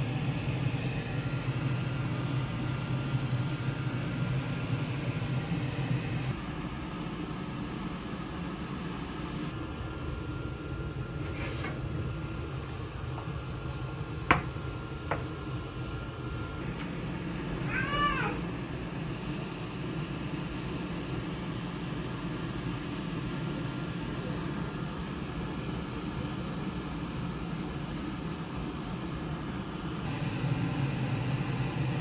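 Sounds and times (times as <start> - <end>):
faint high whine: 0.0 - 32.0.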